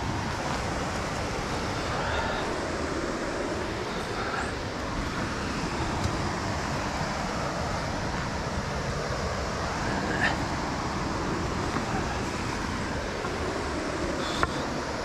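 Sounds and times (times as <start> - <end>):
whitewater rapids roaring: 0.0 - 15.0.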